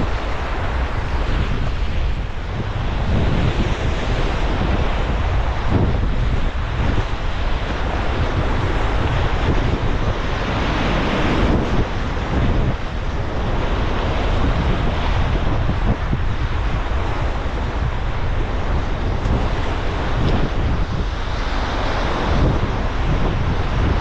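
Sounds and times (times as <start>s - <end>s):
river whitewater rushing: 0.0s - 24.0s
wind noise on microphone: 0.0s - 24.0s.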